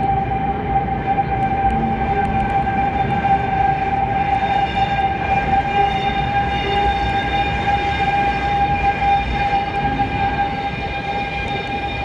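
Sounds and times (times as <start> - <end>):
high-pitched whine: 0.0 - 12.0
tram wheels rumbling on rails: 0.0 - 12.0.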